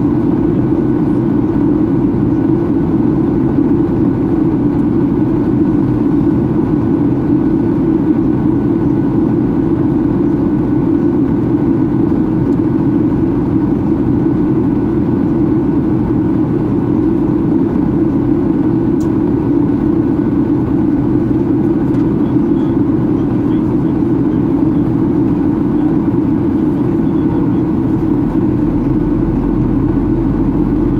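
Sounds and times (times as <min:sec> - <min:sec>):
air rushing along fuselage: 0:00.0 - 0:30.9
airplane cabin engine hum: 0:00.0 - 0:30.9.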